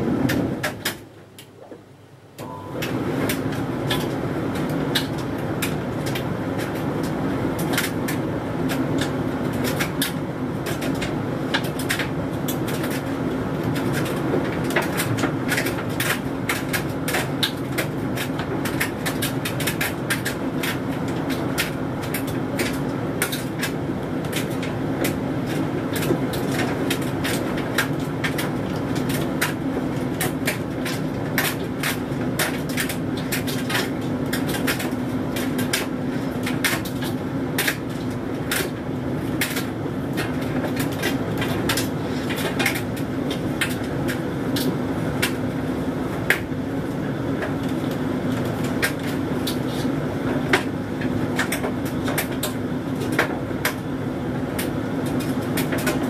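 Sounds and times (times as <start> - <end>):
tumble dryer motor and fan hum: 0.0 - 56.0.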